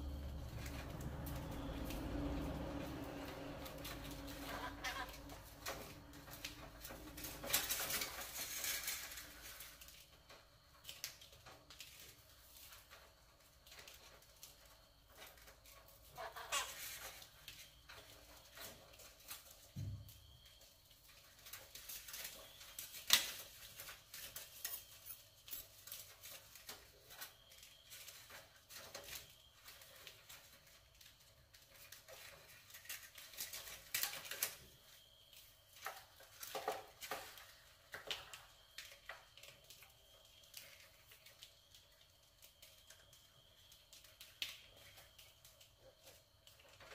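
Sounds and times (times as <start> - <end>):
rats scratching on wire cage: 0.0 - 19.9, 20.5 - 46.9.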